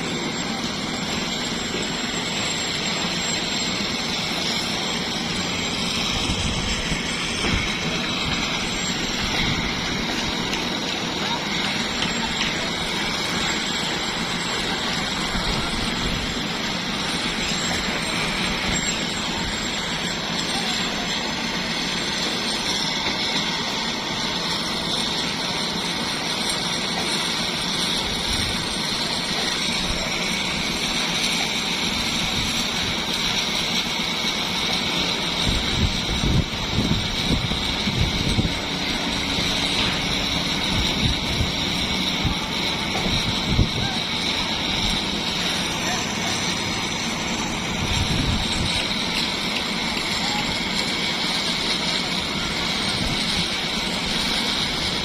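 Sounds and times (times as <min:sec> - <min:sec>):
construction machinery engine running: 0:00.0 - 0:55.0.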